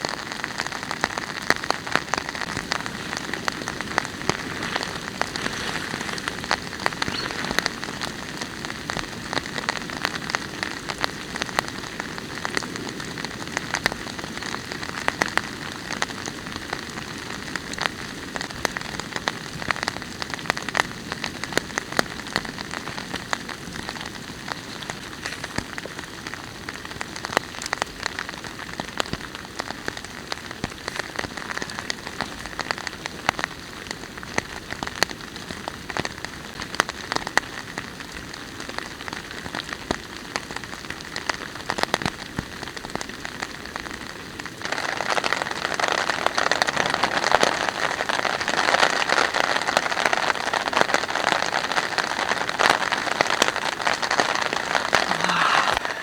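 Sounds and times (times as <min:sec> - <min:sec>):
raindrops tapping: 0:00.0 - 0:55.3.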